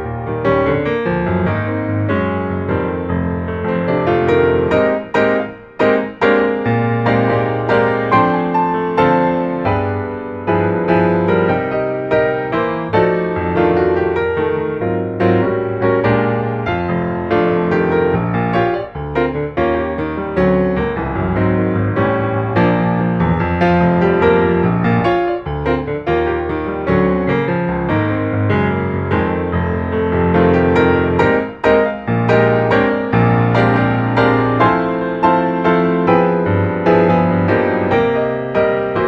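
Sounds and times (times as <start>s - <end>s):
background piano music: 0.0s - 39.0s.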